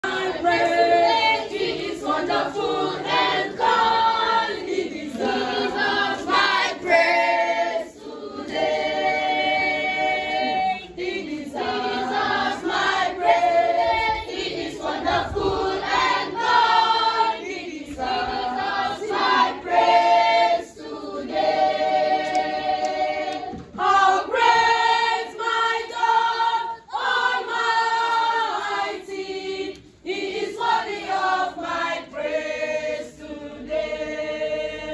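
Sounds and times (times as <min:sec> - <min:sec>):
choir singing long held notes: 0:00.0 - 0:34.9.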